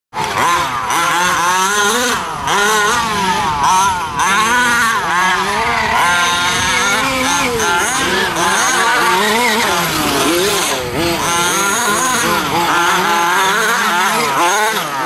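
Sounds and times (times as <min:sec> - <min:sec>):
small two-stroke engine revving: 0:00.1 - 0:15.0.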